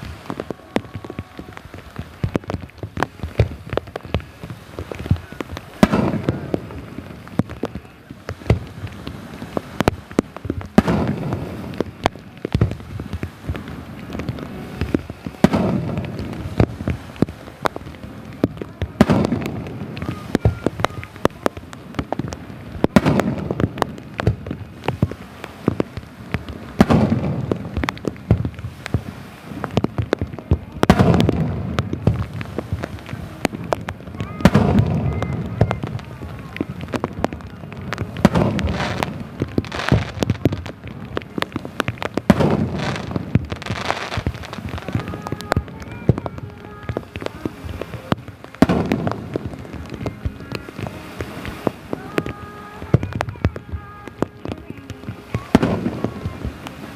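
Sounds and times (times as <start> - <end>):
fireworks booming: 0.0 - 56.9
fireworks pops and crackles: 0.0 - 56.9
heavy rain: 0.0 - 56.9.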